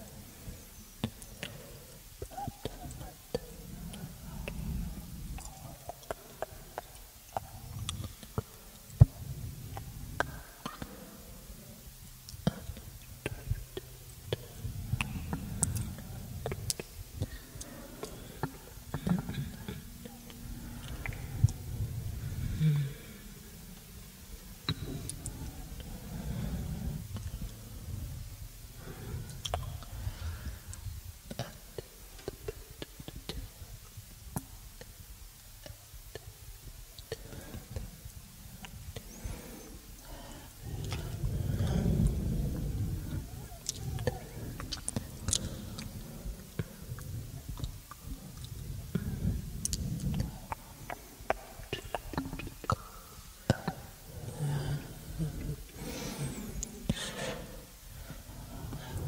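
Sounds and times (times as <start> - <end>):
low rumbling noise: 0.0 - 59.0.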